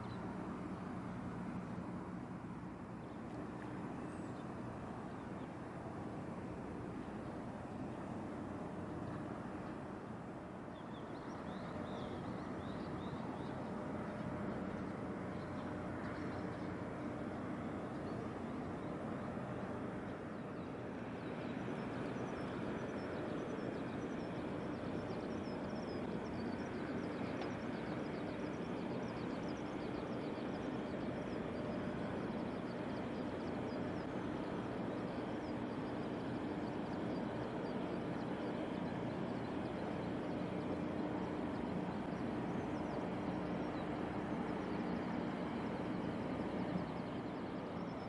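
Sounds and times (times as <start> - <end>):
faint steady hum: 0.0 - 48.0
ship engine drone: 0.0 - 48.0.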